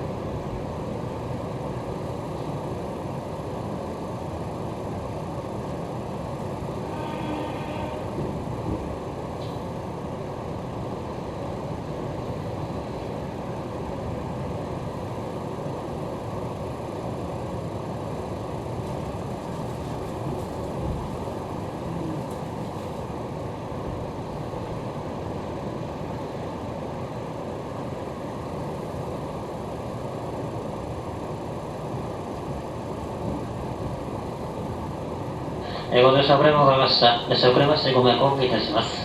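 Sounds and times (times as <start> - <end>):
train interior rumble: 0.0 - 39.0.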